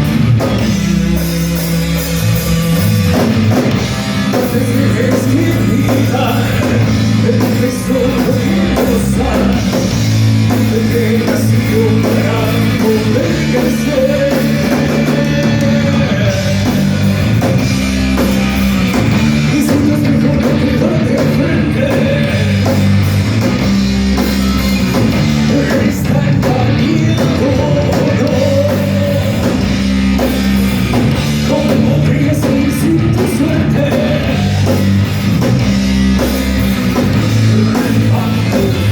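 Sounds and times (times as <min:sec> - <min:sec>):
distorted electric guitars: 0:00.0 - 0:38.9
drums: 0:00.0 - 0:38.9.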